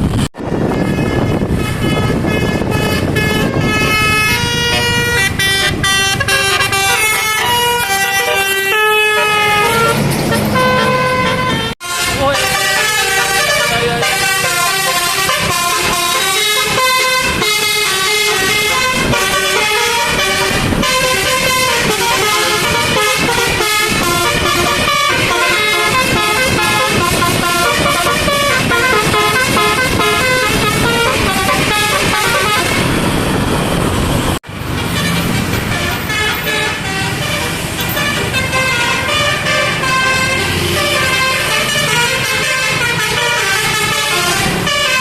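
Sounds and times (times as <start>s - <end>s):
musical air horn melody: 0.6s - 33.6s, 35.0s - 45.0s.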